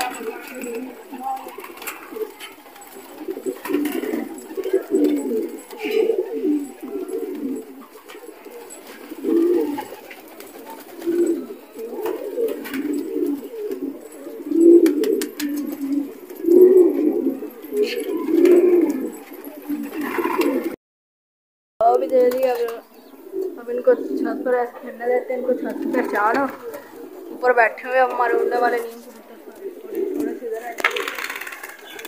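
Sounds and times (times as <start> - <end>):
pigeons cooing: 0.0 - 20.8, 22.2 - 32.0.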